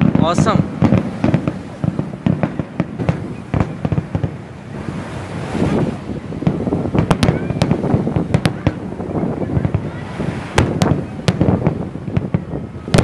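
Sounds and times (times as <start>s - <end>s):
firework shells bursting: 0.0s - 13.0s
fireworks crackling hiss: 0.0s - 13.0s
sharp firework bangs: 0.0s - 13.0s.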